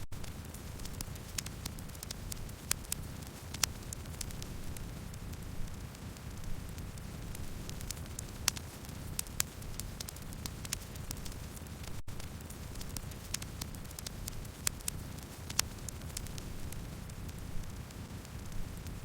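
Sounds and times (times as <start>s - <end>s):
campfire crackling: 0.1s - 19.0s.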